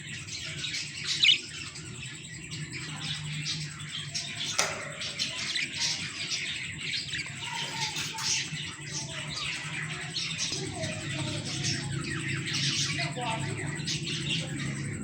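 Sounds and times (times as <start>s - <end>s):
budgerigars chattering: 0.0s - 15.0s
steady low hum: 0.0s - 15.0s.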